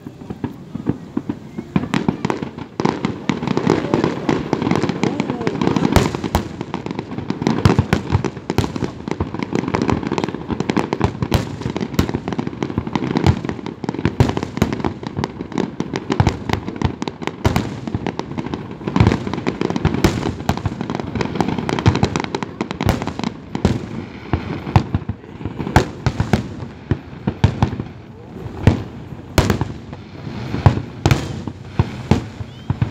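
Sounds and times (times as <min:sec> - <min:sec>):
fireworks bangs and pops: 0:00.0 - 0:32.9.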